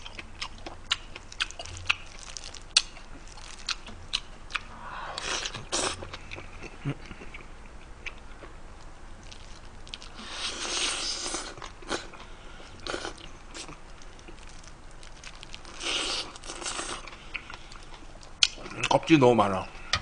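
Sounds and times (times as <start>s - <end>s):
person chewing and crunching: 0.0s - 8.6s, 9.2s - 19.0s.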